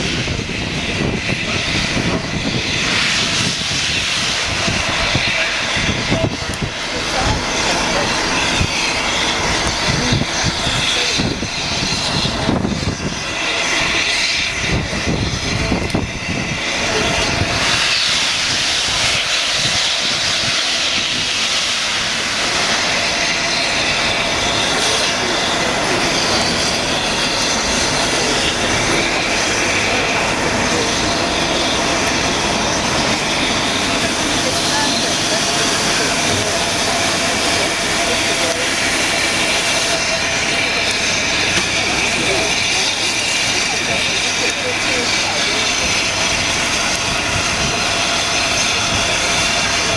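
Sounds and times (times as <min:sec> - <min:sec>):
steam locomotive hissing: 0:00.0 - 0:49.9.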